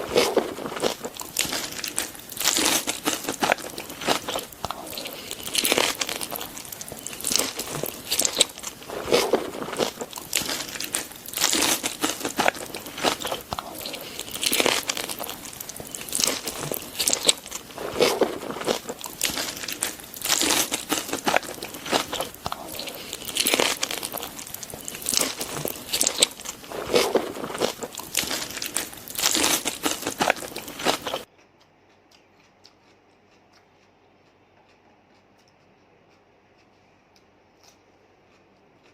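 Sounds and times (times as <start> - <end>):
person crunching and chewing: 0.0 - 38.9.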